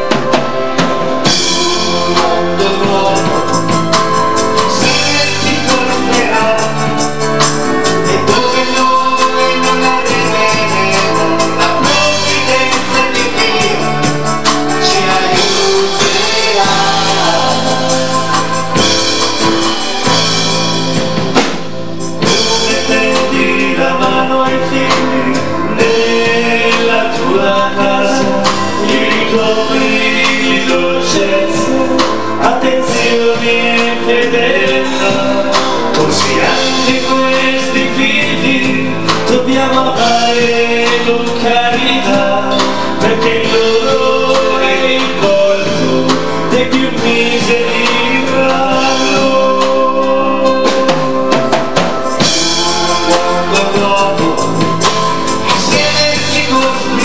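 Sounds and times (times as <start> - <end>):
song with singing: 0.0 - 57.0.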